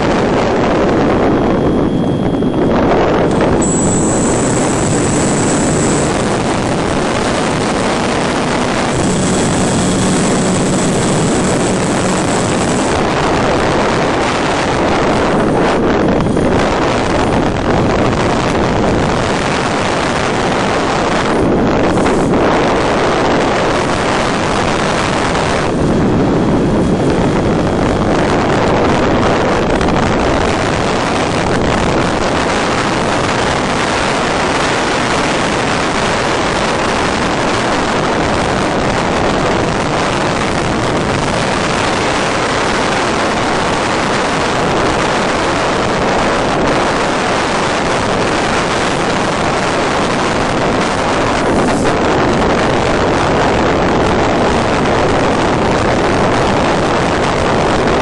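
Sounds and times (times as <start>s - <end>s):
steady rushing air noise: 0.0s - 58.0s.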